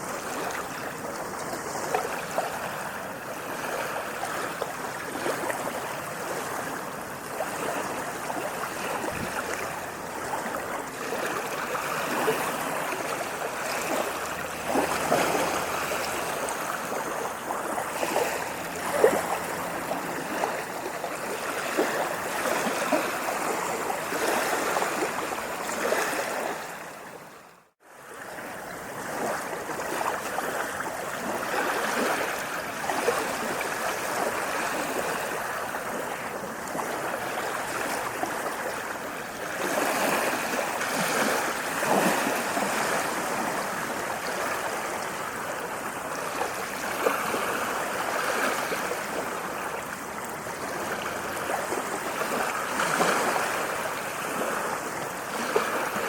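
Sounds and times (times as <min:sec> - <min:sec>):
sea waves washing and splashing: 0:00.0 - 0:56.0.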